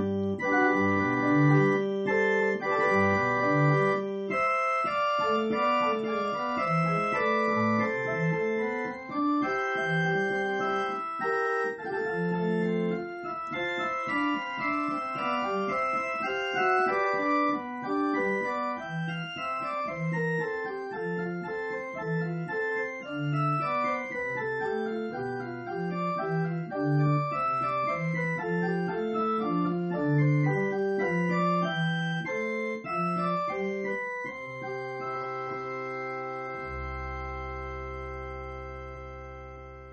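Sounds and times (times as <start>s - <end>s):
organ music: 0.0s - 39.9s.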